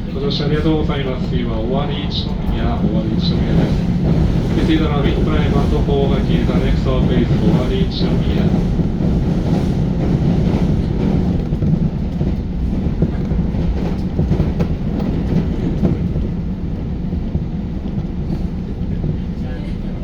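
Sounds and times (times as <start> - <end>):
train rumbling from inside: 0.0 - 20.0.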